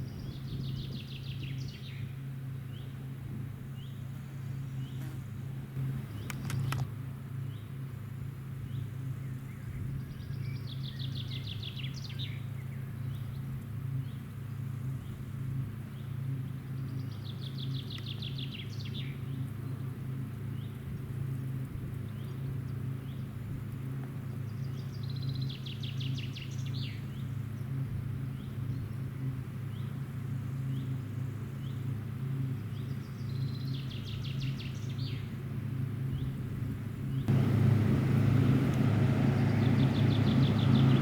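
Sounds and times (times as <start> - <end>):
songbird singing: 0.0 - 3.1, 3.7 - 5.2, 5.8 - 7.8, 8.6 - 15.3, 15.9 - 21.0, 22.0 - 23.4, 24.2 - 35.4, 36.0 - 36.4, 37.1 - 41.0
distant farm machinery drone: 0.0 - 36.2, 36.8 - 41.0.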